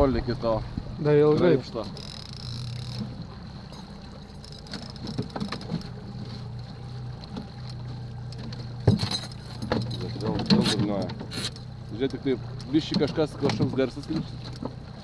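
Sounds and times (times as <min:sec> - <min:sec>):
outboard motor humming: 0:00.0 - 0:15.0.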